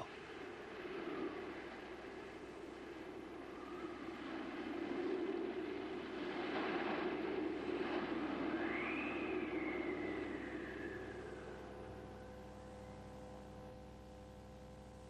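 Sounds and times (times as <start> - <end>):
wind blowing in gusts: 0.0 - 12.5
wind whistling: 0.0 - 13.1.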